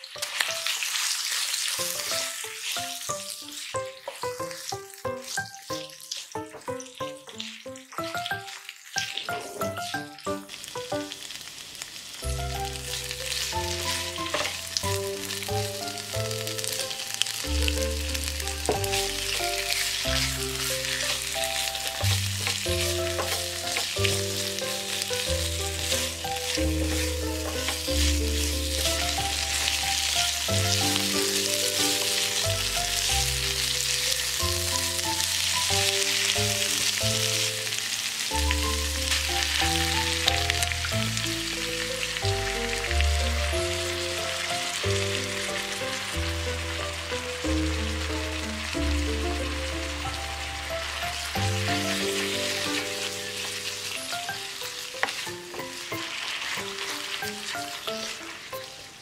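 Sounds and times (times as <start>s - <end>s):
background music: 0.0s - 11.4s, 12.2s - 59.0s
spatula turning food: 0.0s - 11.6s, 12.4s - 40.8s, 50.6s - 59.0s
food sizzling in a frying pan: 0.0s - 59.0s.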